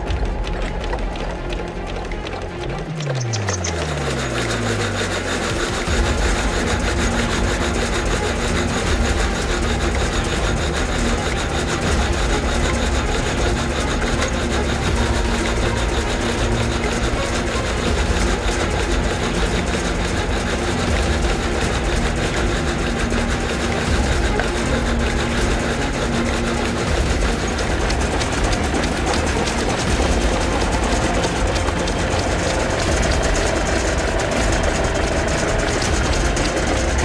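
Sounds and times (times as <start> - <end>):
low drone of sawmill: 0.0 - 37.0
sawmill blade cutting log: 0.7 - 37.0.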